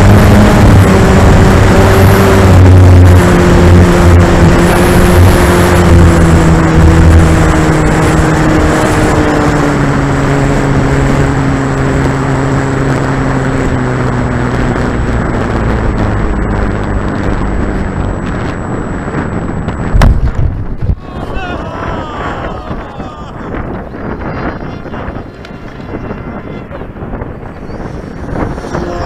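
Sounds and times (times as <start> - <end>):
model plane electric motor whine: 0.0 - 20.0, 24.0 - 29.0
wind rush on microphone: 0.0 - 29.0.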